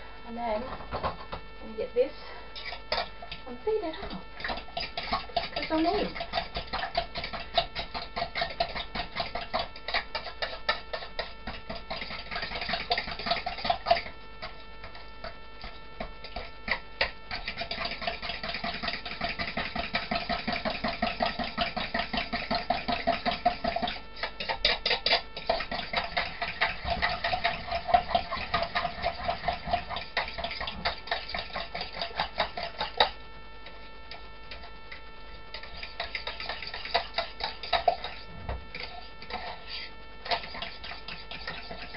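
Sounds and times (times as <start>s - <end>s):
utensil beating in metal jug: 4.0s - 41.9s.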